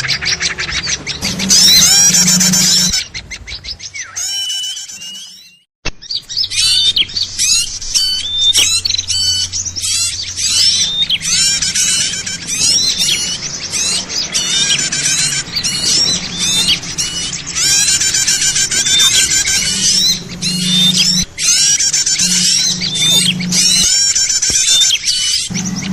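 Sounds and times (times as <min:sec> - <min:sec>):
chorus of small birds chirping: 0:00.0 - 0:25.9.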